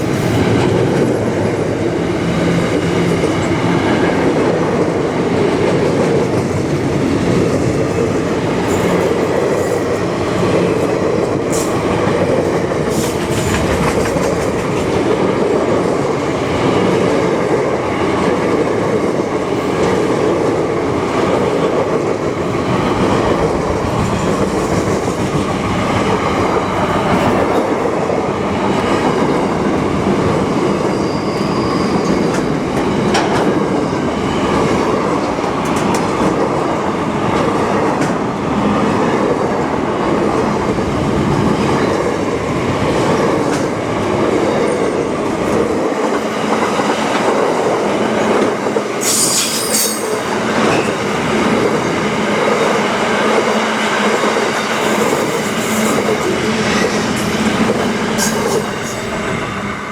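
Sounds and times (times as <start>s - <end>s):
rail clicks: 0.0s - 59.9s
train wheels rumbling on rail: 0.0s - 59.9s.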